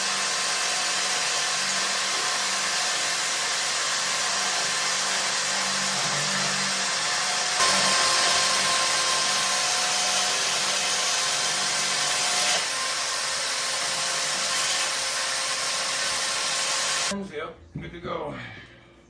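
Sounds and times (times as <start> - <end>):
power tool grinding steel: 0.0 - 17.1.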